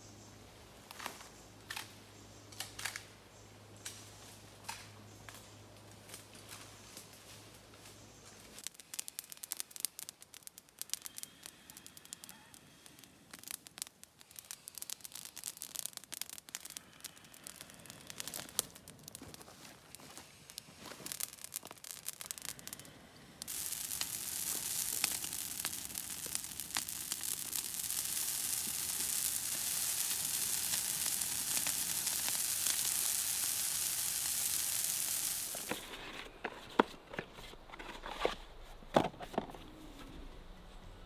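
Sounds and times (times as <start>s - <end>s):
fire hissing and crackling: 0.0s - 37.2s.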